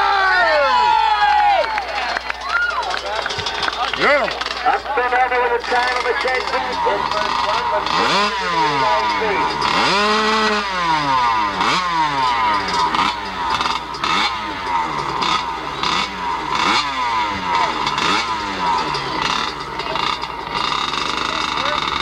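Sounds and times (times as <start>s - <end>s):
dirt bike engine revving: 2.8s - 22.0s.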